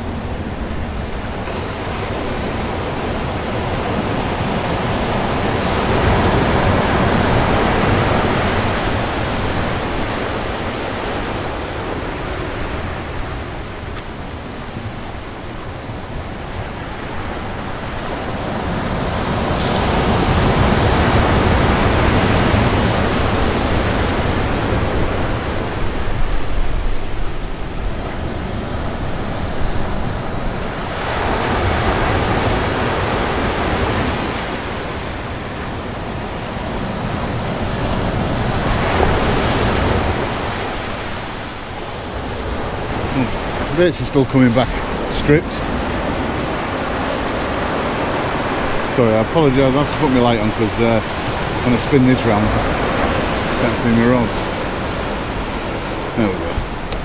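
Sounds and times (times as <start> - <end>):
waves breaking on beach: 0.0 - 57.0.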